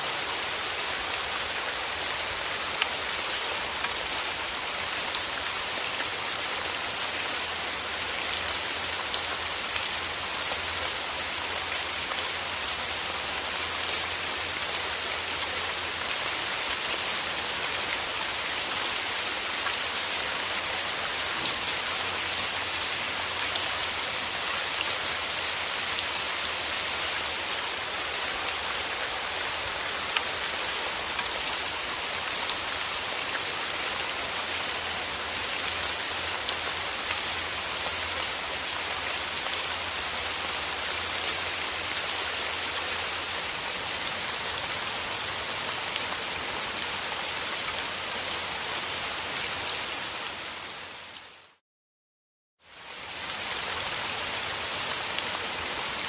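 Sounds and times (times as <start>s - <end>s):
steady rain falling: 0.0s - 51.6s, 52.6s - 56.0s.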